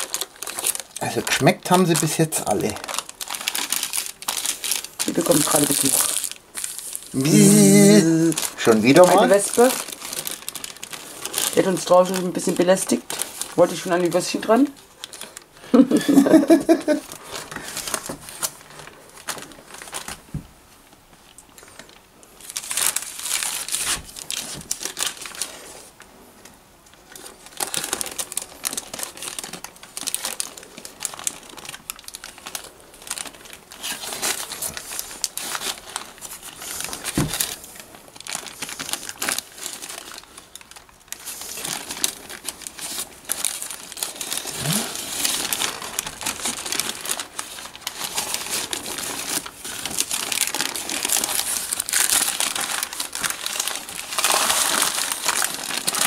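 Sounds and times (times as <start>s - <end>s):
baking paper crinkling: 0.0s - 26.1s, 26.9s - 56.0s.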